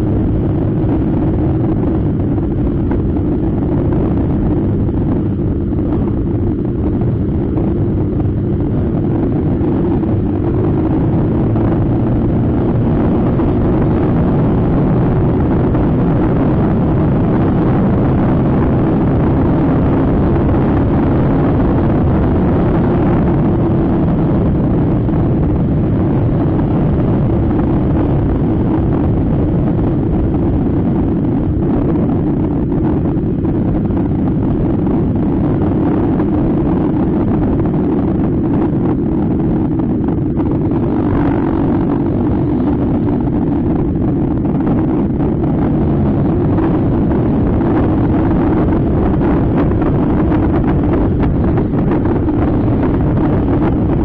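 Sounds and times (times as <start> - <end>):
scooter engine drone: 0.0 - 54.0
wind rush on microphone: 0.0 - 54.0.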